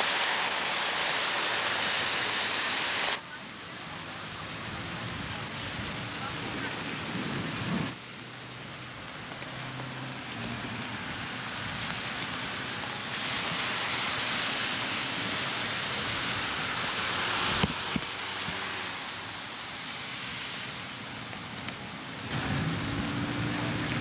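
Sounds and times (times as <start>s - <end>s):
rain on pavement and foliage: 0.0s - 24.0s.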